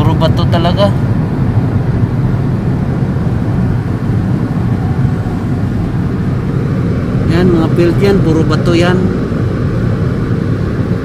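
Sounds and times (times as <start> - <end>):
car road noise at highway speed: 0.0 - 11.0.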